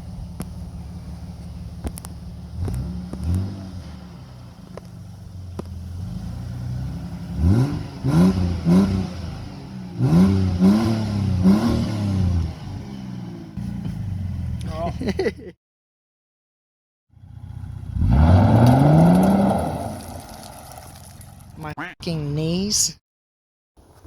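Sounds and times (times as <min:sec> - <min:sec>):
engine idling and revving: 0:00.0 - 0:15.5, 0:17.1 - 0:21.6.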